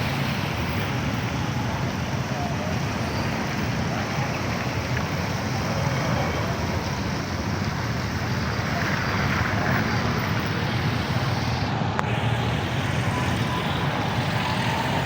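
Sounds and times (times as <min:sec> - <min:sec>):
traffic engine noise: 0:00.0 - 0:15.0
water rushing under tyres: 0:00.0 - 0:15.0.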